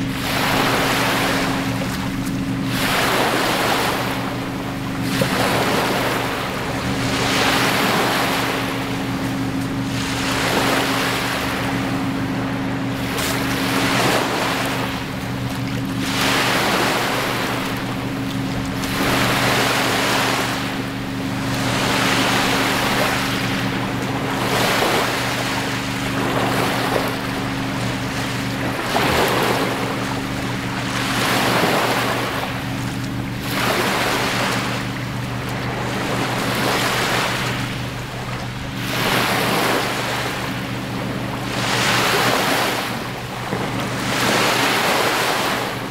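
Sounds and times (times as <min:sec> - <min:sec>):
steady low hum: 0:00.0 - 0:45.9
waves washing on sandy shore: 0:00.0 - 0:45.9.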